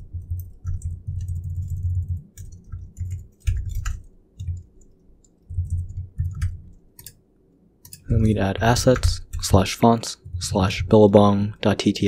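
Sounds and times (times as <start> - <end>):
computer keyboard typing: 0.0 - 7.2, 7.8 - 11.1.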